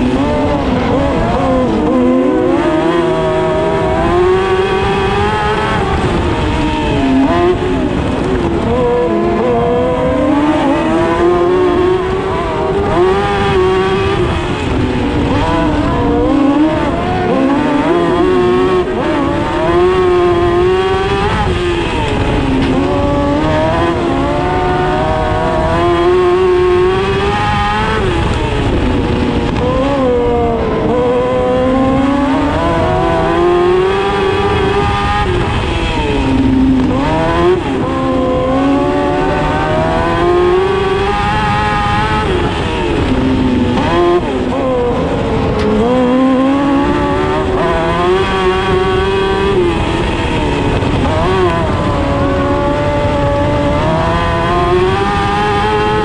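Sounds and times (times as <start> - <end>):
race car motorcycle engine revving: 0.0 - 56.0
rumble and rattle of car: 0.0 - 56.0.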